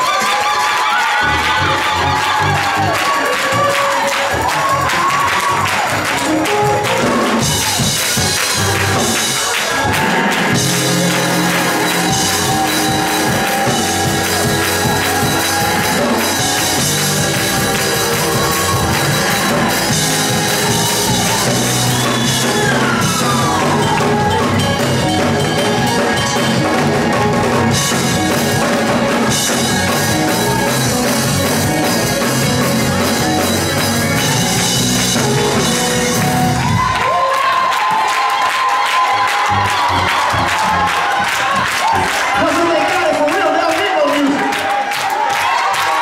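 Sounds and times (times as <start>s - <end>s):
gospel church music: 0.0s - 46.0s
drum kit: 1.2s - 42.7s.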